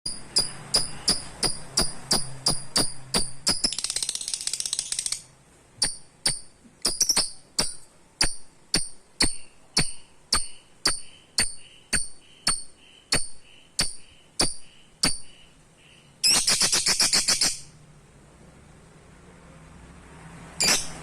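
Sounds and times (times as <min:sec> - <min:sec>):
lovebird chirping: 0:00.1 - 0:17.8, 0:20.6 - 0:21.0.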